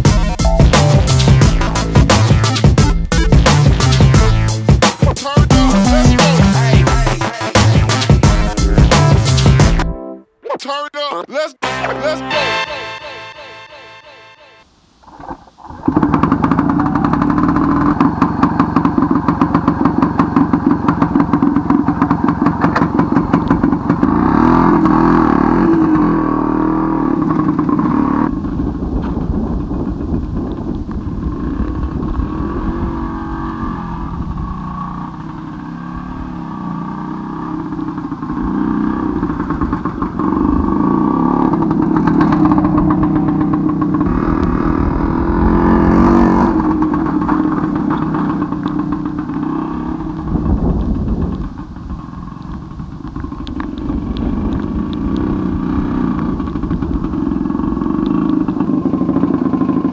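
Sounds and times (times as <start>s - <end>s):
motorcycle engine idling and revving: 0.0s - 9.8s, 15.7s - 59.9s.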